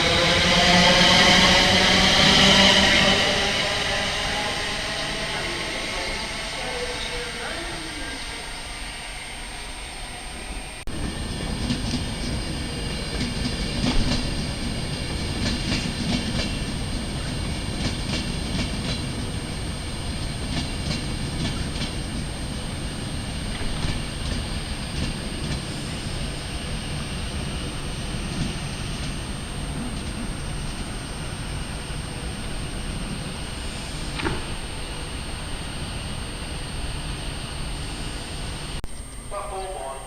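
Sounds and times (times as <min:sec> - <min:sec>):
train rumbling past: 0:00.0 - 0:40.0.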